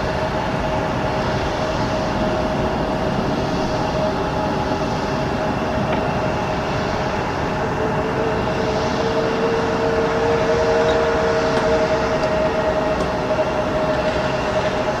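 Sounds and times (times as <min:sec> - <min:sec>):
jet engines at takeoff: 0:00.0 - 0:15.0
steady hum: 0:00.0 - 0:15.0.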